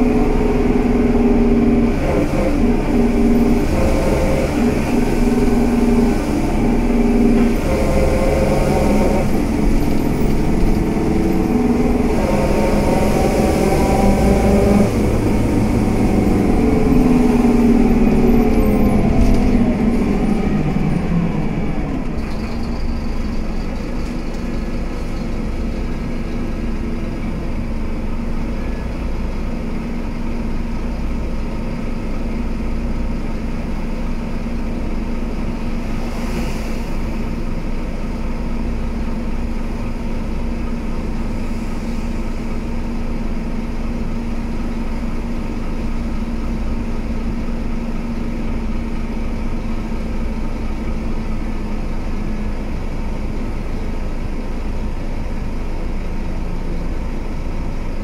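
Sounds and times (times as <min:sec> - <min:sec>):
bus diesel engine pulling away: 0:00.0 - 0:58.0.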